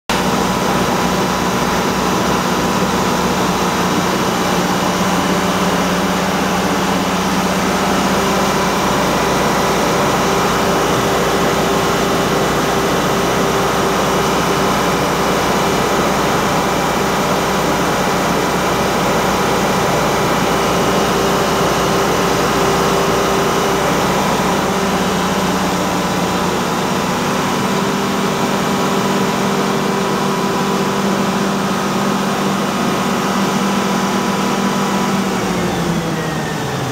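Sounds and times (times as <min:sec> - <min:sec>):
diesel generator engine drone: 0:00.1 - 0:36.9.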